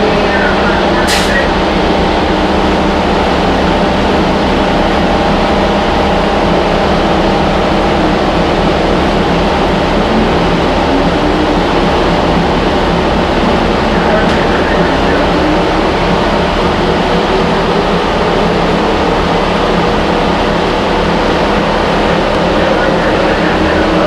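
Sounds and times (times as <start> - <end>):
bus engine rumble: 0.0 - 24.0.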